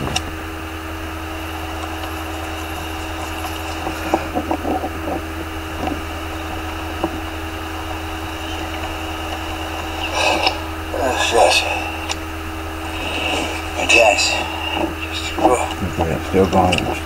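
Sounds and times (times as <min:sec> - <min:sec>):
mechanical hum with high whine: 0:00.0 - 0:17.0.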